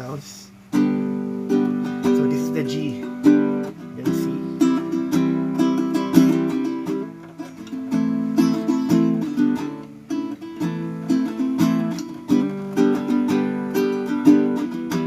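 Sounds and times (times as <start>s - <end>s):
baritone ukulele strummed chords: 0.7s - 15.0s.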